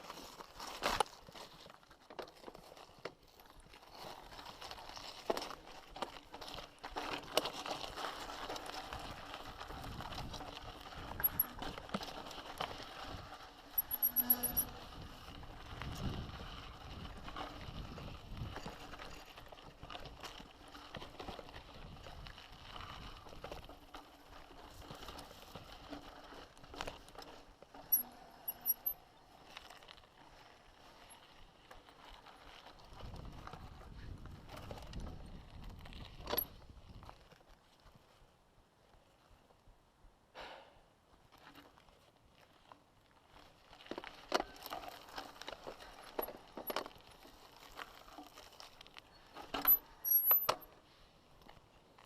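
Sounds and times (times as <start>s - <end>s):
bike rattles and knocks: 0.0s - 37.4s, 41.3s - 50.8s
bike tyre noise on rocky trail: 0.0s - 52.0s.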